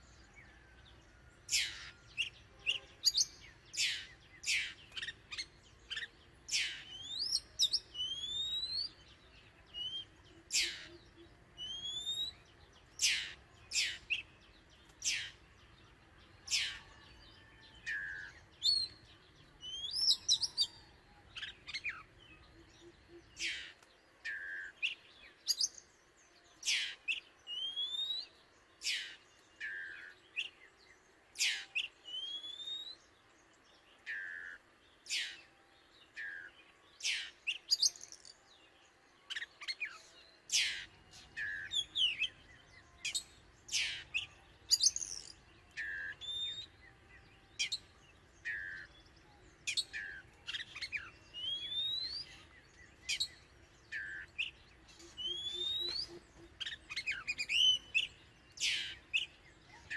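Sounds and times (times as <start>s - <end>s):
bird singing high whistled notes: 1.5s - 15.4s, 16.4s - 33.2s, 34.0s - 59.9s.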